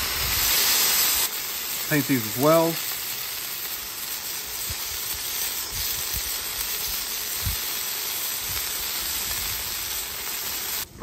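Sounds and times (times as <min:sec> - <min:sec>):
tacos sizzling in oil: 0:00.0 - 0:11.0.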